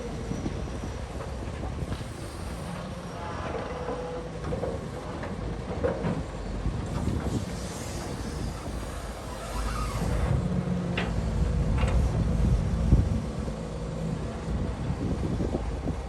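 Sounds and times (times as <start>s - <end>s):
excavator diesel engine rumble: 0.0s - 16.0s.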